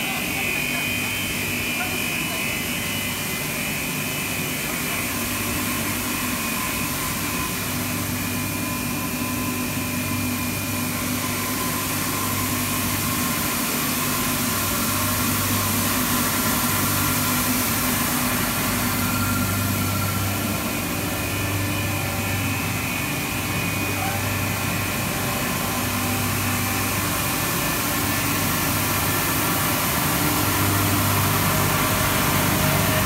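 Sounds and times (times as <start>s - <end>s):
machine drone with hum and whine: 0.0s - 33.0s.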